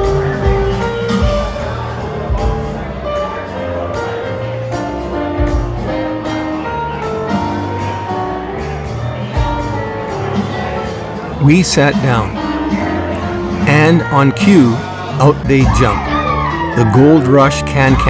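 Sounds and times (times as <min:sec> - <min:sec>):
instrumental music: 0:00.0 - 0:18.0.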